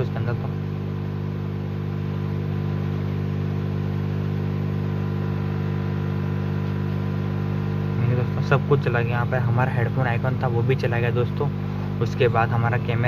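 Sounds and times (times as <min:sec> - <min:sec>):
low buzzy electrical hum: 0:00.0 - 0:13.0.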